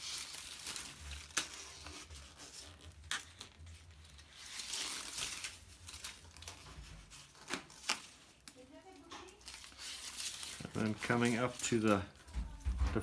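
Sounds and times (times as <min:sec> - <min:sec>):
bar tape rustling and crinkling: 0:00.0 - 0:13.0.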